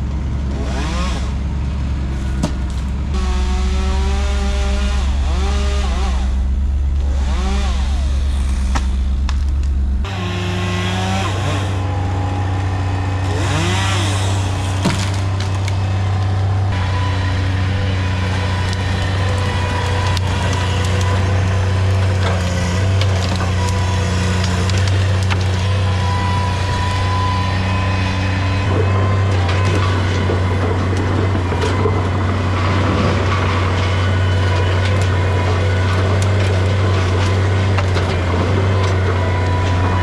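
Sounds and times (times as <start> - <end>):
large engine droning: 0.0 - 40.0
chainsaw revving: 0.5 - 1.5, 2.1 - 40.0.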